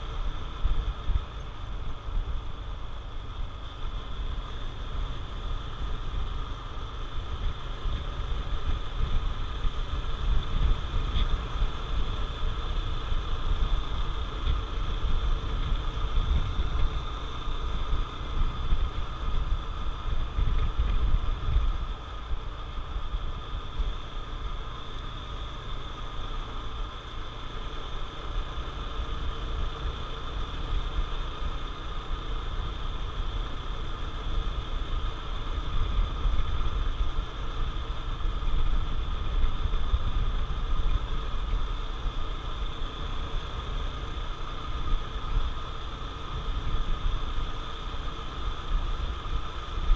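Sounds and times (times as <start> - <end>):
motorcycle engine running: 0.0 - 49.9
wind and road noise: 0.0 - 49.9.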